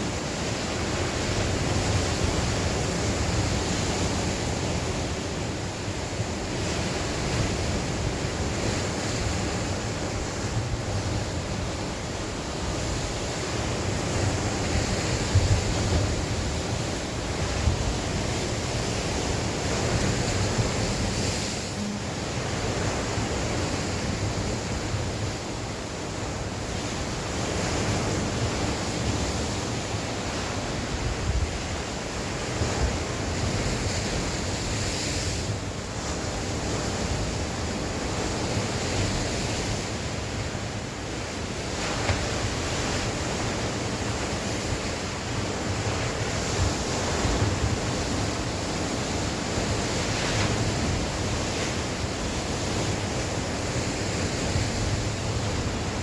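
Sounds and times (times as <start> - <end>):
sea surf washing ashore: 0.0 - 56.0
wind rumbling on microphone: 0.0 - 56.0.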